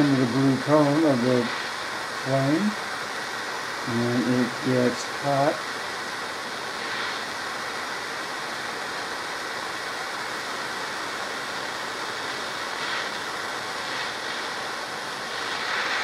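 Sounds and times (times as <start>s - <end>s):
propane torch hissing: 0.0s - 16.0s.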